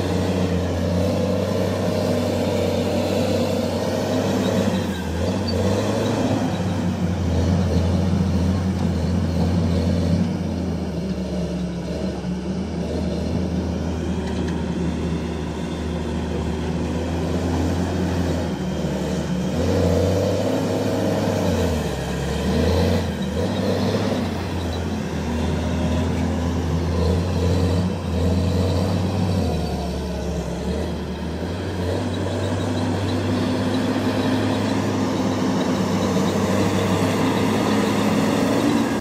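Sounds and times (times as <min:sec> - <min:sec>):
diesel dozer engine droning: 0:00.0 - 0:39.0.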